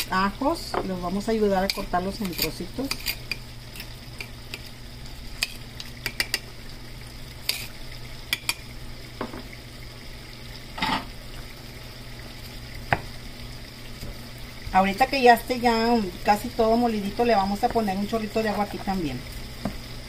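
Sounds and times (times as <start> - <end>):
low hum and hiss: 0.0 - 20.0.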